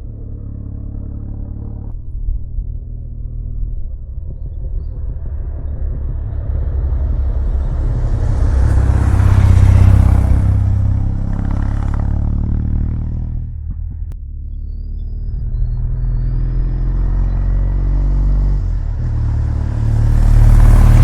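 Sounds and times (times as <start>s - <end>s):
motorcycle exhaust note: 0.0s - 21.0s.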